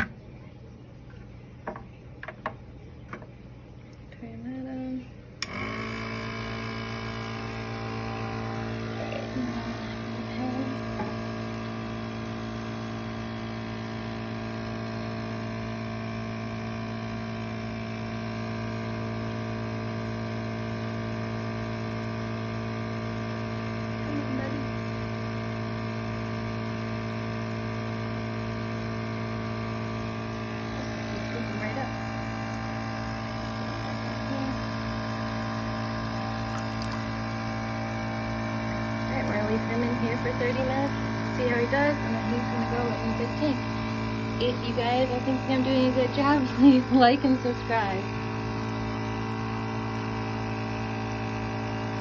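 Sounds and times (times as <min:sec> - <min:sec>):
aquarium air pump humming: 0:00.0 - 0:52.0.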